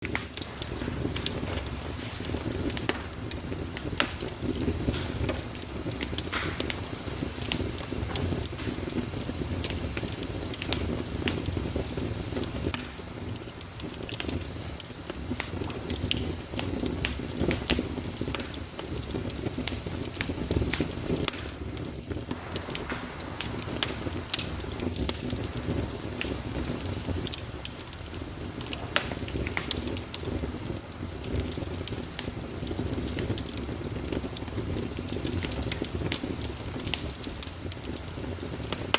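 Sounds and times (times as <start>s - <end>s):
low rush of flame: 0.0s - 38.9s
wood fire crackling: 0.0s - 38.9s.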